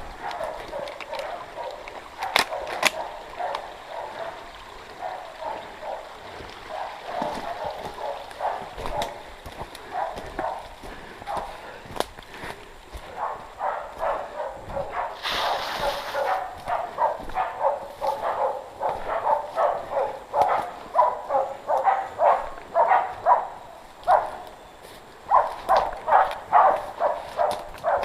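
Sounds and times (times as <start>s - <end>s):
dogs barking: 0.0s - 28.0s.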